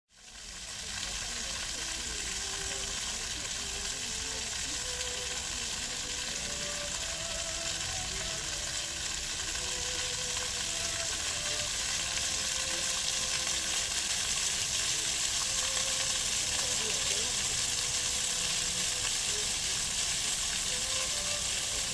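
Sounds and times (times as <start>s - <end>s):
fountain jets splashing: 0.1s - 21.9s.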